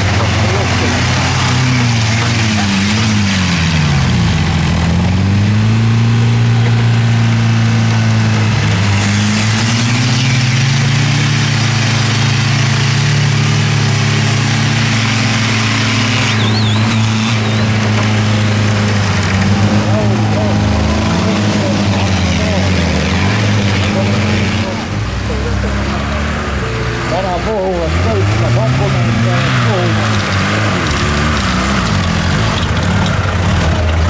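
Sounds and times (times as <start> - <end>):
engine revving hard: 0.0 - 34.0
wheels spinning in mud: 0.0 - 34.0.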